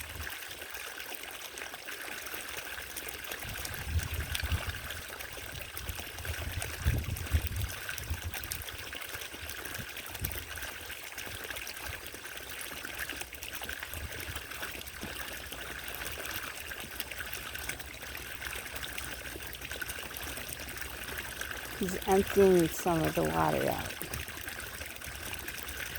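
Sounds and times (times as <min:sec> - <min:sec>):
fountain water trickling: 0:00.0 - 0:25.9.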